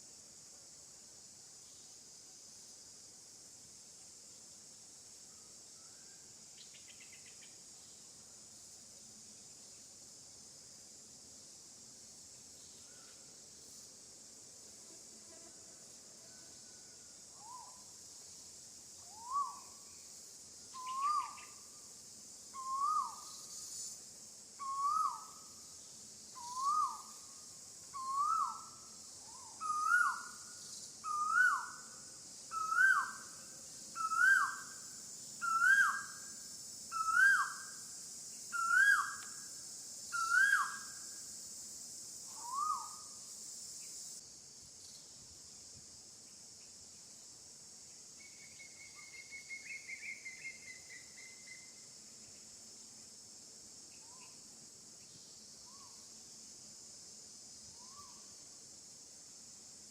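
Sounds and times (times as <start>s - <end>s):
high insect hiss: 0.0s - 59.9s.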